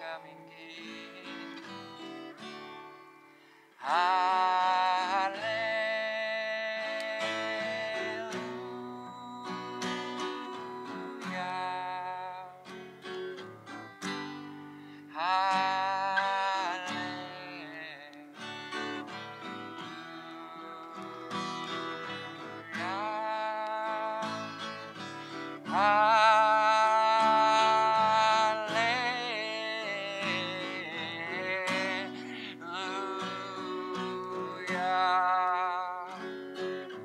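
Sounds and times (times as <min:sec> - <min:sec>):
man singing: 0:00.0 - 0:02.7, 0:03.8 - 0:13.0, 0:13.7 - 0:37.0
acoustic guitar: 0:00.0 - 0:37.0.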